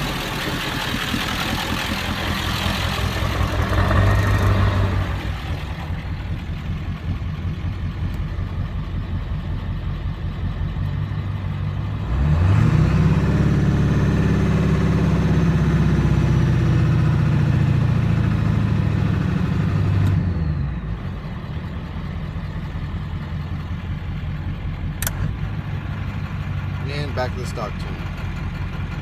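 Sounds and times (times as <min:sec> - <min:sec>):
diesel engine idling and revving: 0:00.0 - 0:29.0.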